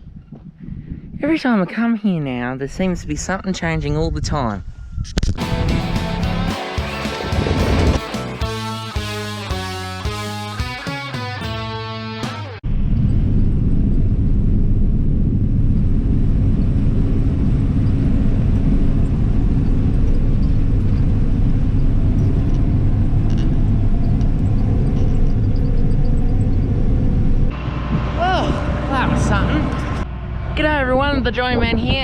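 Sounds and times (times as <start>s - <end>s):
vehicle engine running: 5.4s - 12.6s, 13.5s - 32.0s.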